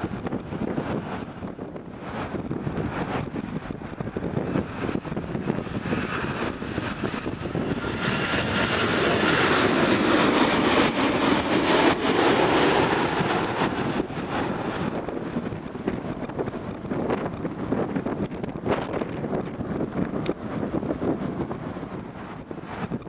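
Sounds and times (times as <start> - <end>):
jet airliner passing overhead: 0.0 - 23.0.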